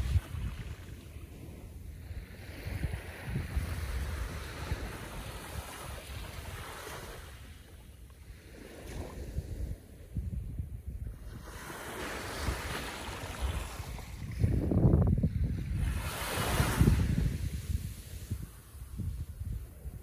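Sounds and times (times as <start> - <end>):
gentle waves lapping on beach: 0.0 - 14.7, 15.3 - 20.0.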